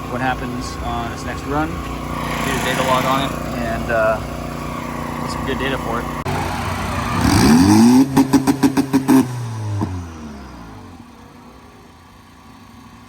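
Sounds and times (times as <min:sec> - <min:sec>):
car engine launching: 0:00.0 - 0:13.0.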